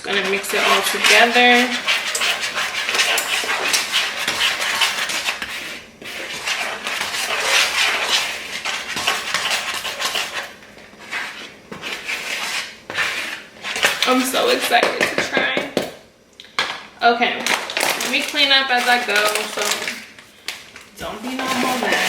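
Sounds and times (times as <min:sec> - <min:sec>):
spoon scraping mixing bowl: 0:00.0 - 0:16.8, 0:17.4 - 0:22.0.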